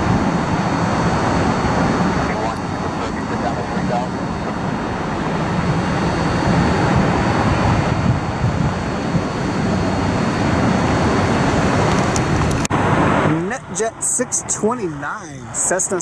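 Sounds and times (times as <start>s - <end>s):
wind on microphone: 0.0s - 13.8s
jet engine roar: 0.0s - 16.0s.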